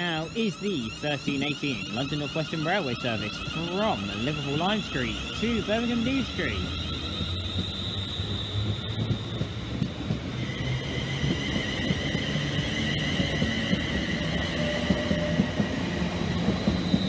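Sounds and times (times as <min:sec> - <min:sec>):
train traction whine: 0:00.0 - 0:17.0
train wheels rumbling: 0:00.0 - 0:17.0
whining tones: 0:00.0 - 0:17.0.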